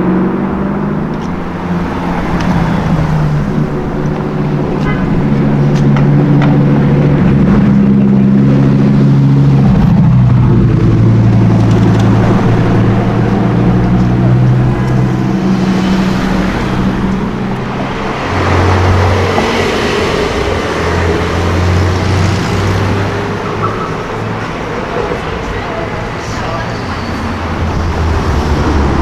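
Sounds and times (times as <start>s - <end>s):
car engine noise: 0.0s - 29.0s
street traffic: 0.0s - 29.0s.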